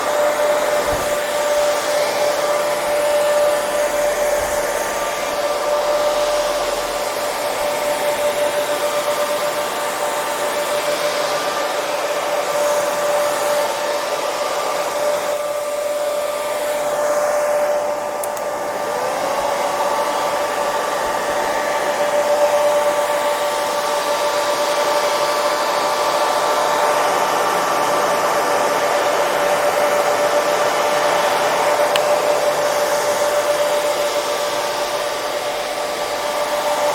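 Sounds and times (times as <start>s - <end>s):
hair dryer running: 0.0s - 36.9s.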